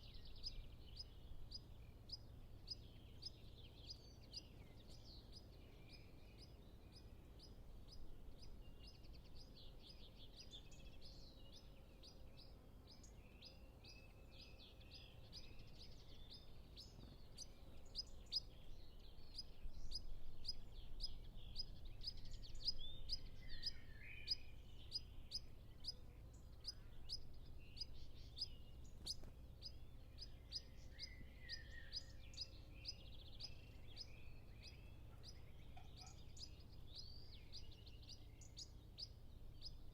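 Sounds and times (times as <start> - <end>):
distant birds singing: 0.0 - 39.9.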